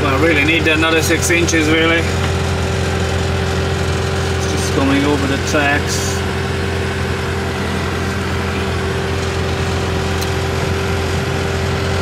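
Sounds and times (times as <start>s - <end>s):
excavator diesel engine running: 0.0s - 12.0s
steady whine: 0.0s - 12.0s.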